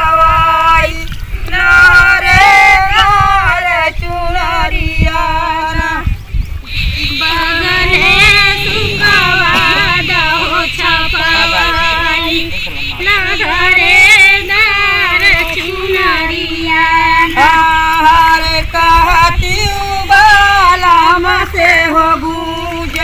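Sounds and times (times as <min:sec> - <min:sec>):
women singing folk song: 0:00.0 - 0:23.0.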